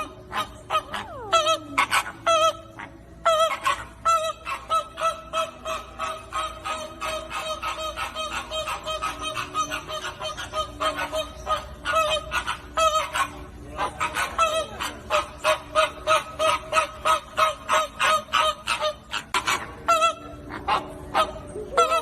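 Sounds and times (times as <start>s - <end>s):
flamingos honking: 0.0s - 22.0s.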